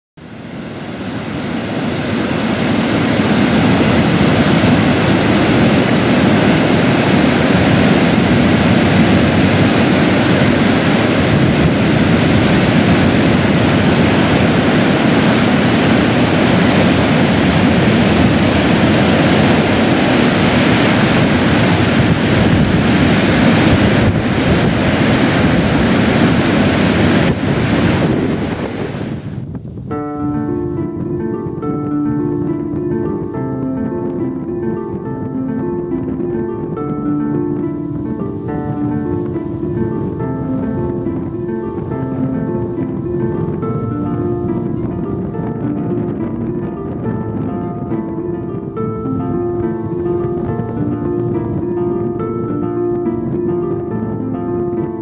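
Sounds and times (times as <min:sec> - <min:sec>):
loud rushing water: 0:00.2 - 0:55.0.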